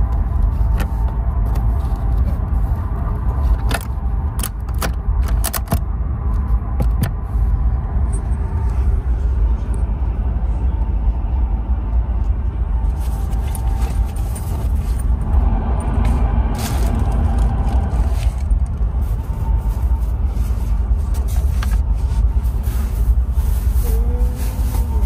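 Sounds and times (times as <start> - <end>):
train running rumble: 0.0 - 25.0.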